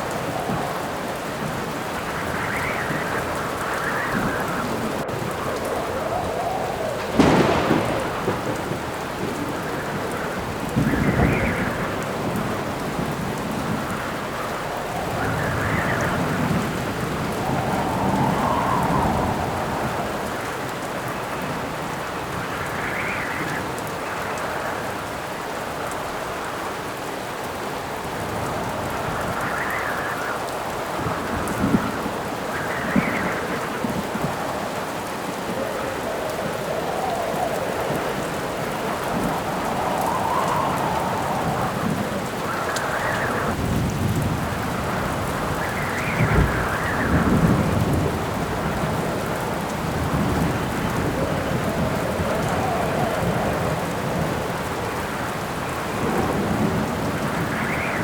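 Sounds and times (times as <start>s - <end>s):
thunderclap: 0.0s - 21.7s, 28.2s - 58.0s
rumble of thunder: 0.0s - 23.6s, 28.1s - 58.0s
gusts of wind: 0.0s - 58.0s
heavy rain: 0.0s - 58.0s.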